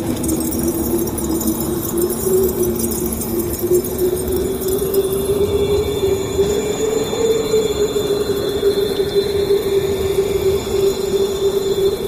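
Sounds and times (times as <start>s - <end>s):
eerie wavering tone: 0.0s - 12.0s.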